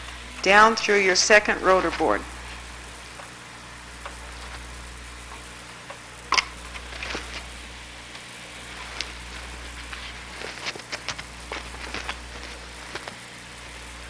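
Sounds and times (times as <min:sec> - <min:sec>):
film soundtrack hiss and hum: 0:00.0 - 0:14.0
faint crackles: 0:01.7 - 0:14.0.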